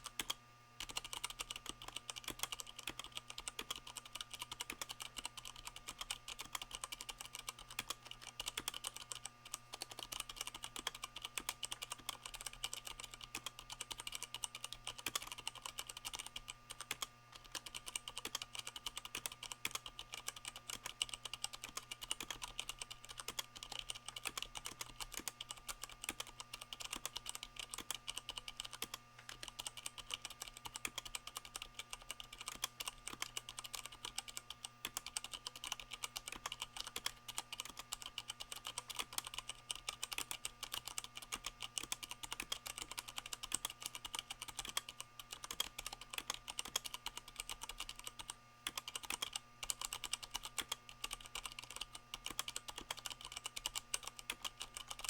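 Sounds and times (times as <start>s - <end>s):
fast mechanical keyboard typing: 0.0s - 55.0s.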